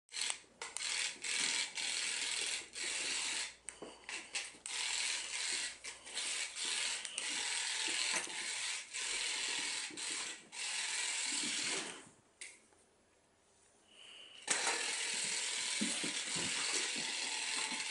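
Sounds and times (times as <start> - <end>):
toy mechanism ratcheting: 0.1 - 12.0, 14.4 - 17.9.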